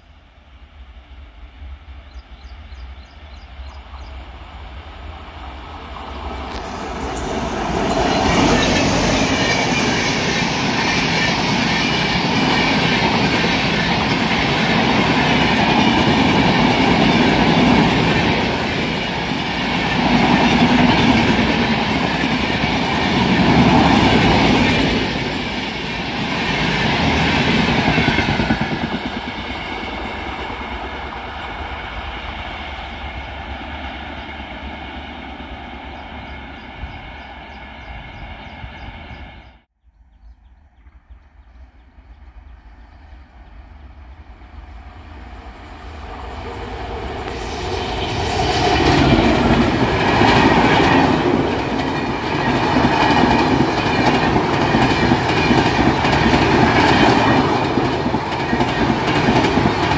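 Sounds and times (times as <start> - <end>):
passenger train passing: 0.0 - 39.8, 40.6 - 59.9.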